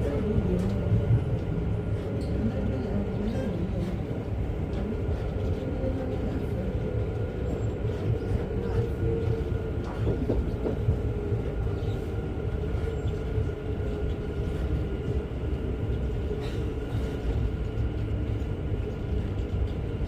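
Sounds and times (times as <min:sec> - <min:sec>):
electric train interior hum: 0:00.0 - 0:20.0.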